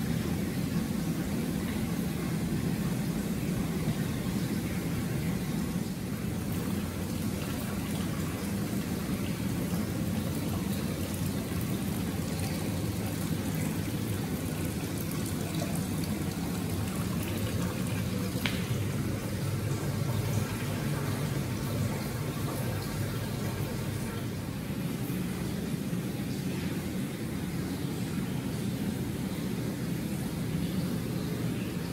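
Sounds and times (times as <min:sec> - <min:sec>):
water running into a bath: 0:00.0 - 0:25.7
faint water drips: 0:00.0 - 0:31.9.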